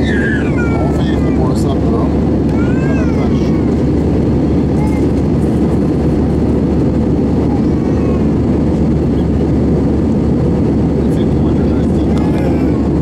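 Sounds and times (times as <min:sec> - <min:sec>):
jet engines and air rushing: 0:00.0 - 0:13.0.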